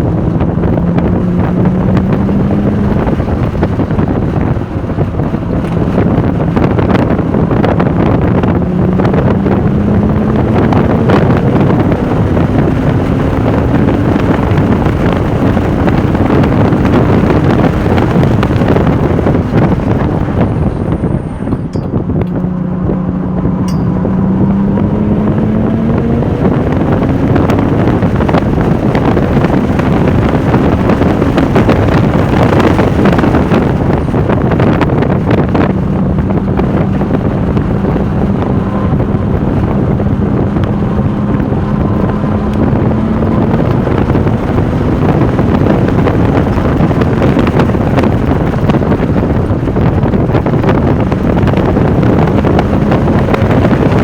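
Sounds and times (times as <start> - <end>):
car engine accelerating: 0.0 - 54.0
wind noise on microphone: 0.0 - 54.0.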